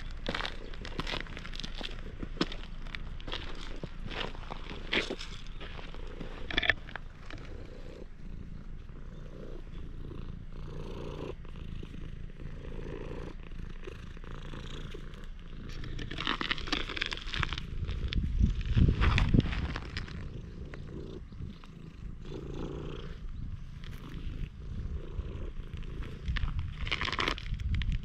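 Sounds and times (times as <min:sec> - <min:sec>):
cat purring: 0:00.0 - 0:19.0, 0:19.8 - 0:27.4.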